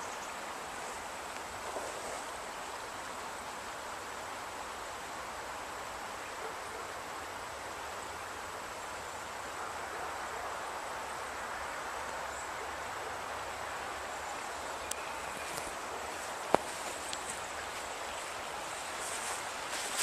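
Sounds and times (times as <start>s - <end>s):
river flowing: 0.0s - 20.0s.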